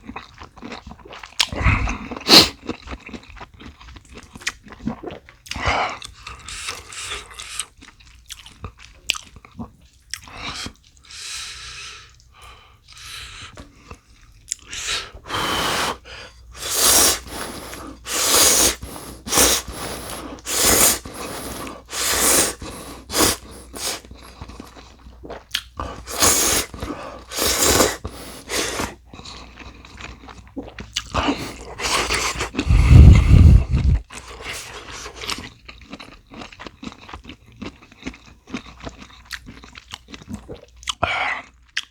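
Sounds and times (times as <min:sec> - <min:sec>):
chewing and crunching: 0:00.0 - 0:15.3, 0:17.2 - 0:41.9.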